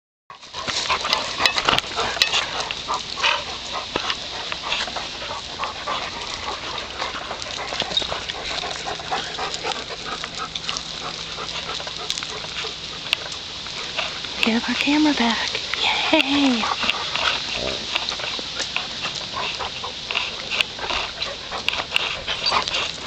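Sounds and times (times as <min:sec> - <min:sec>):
dogs barking: 0:00.3 - 0:14.3, 0:16.4 - 0:23.0
animal sounds: 0:00.3 - 0:23.0
background noise: 0:00.3 - 0:23.0.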